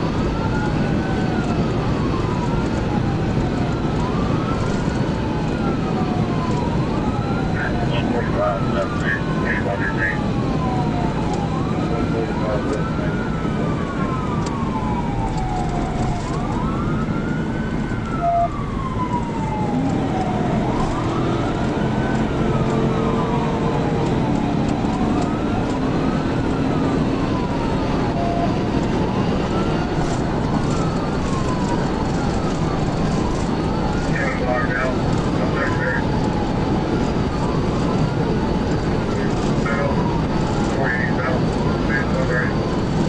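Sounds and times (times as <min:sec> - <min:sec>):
engine and road noise: 0:00.0 - 0:43.0
police siren wailing: 0:00.0 - 0:43.0.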